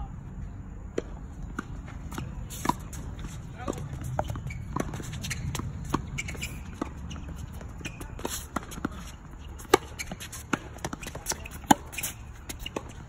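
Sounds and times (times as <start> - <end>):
footsteps on court: 0.3 - 13.0
tennis ball hitting rackets: 0.9 - 13.0.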